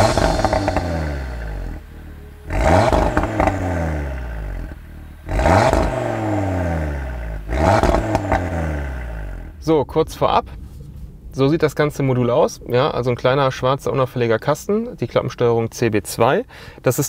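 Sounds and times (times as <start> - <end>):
car engine revving: 0.0 - 14.3
exhaust crackling: 0.0 - 17.0.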